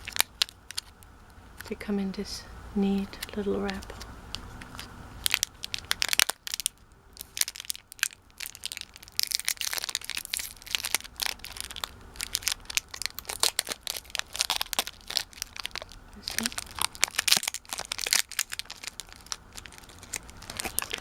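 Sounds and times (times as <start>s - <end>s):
plastic candy wrapper crinkling: 0.0s - 1.7s, 3.0s - 21.0s.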